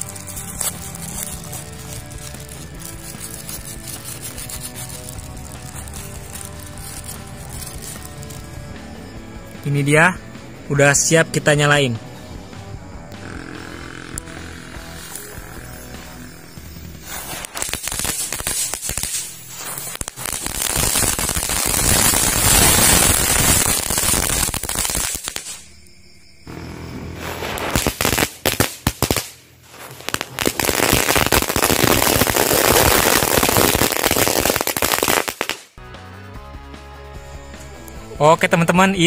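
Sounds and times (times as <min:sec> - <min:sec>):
firecrackers popping and crackling: 0:00.0 - 0:10.1, 0:13.2 - 0:25.9, 0:27.1 - 0:35.8.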